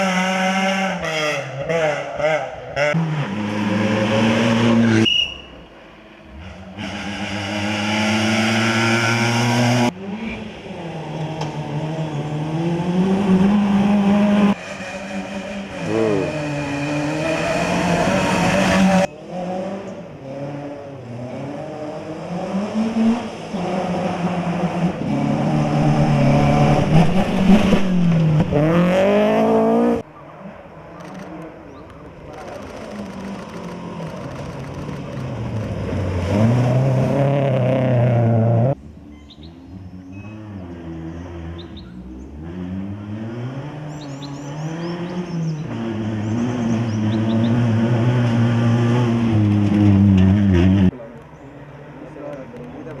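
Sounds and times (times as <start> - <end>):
rally car engines revving: 0.0 - 5.4, 6.2 - 38.8, 39.5 - 53.0.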